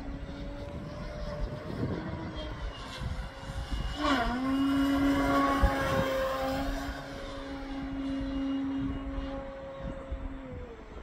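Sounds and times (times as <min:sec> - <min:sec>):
model plane motor drone: 0:00.0 - 0:11.0.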